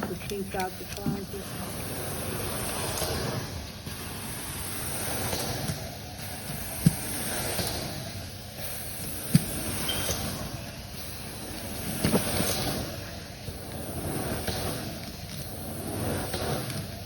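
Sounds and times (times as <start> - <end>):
carpet rustling and scraping: 0.0 - 17.0.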